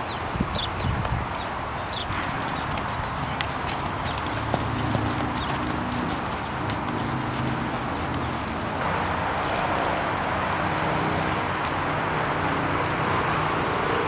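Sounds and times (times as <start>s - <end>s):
horse hoofbeats on dirt: 2.0s - 14.0s.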